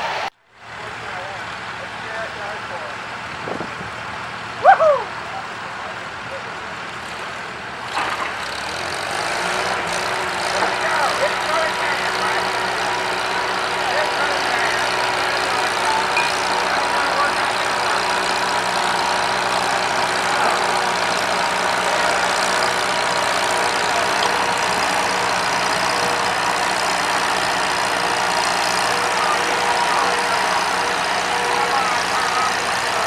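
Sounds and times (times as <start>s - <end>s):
tractor engine running: 0.8s - 33.0s.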